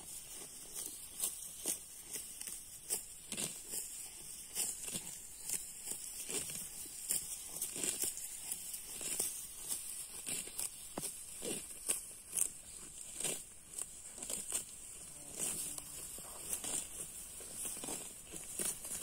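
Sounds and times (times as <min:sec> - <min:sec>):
grass being torn: 0:00.0 - 0:19.0.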